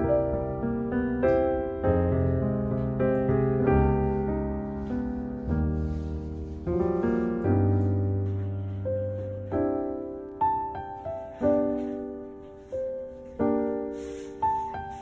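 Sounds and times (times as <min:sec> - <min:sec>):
slow gentle piano piece: 0:00.0 - 0:15.0.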